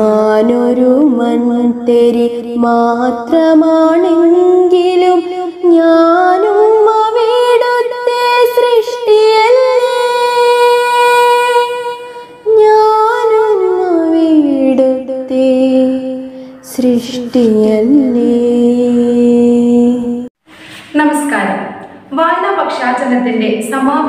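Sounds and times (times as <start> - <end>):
woman singing unaccompanied: 0.0 - 20.3.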